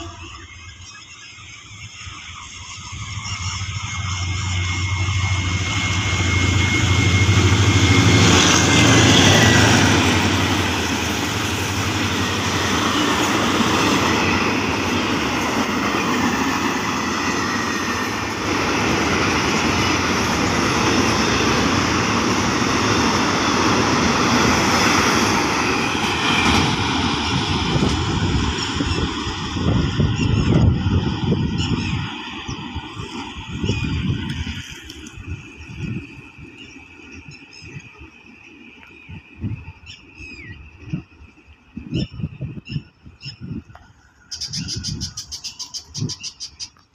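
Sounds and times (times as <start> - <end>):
freight train wagons rumbling on rails: 0.0 - 46.9
locomotive engine drone: 0.0 - 46.9.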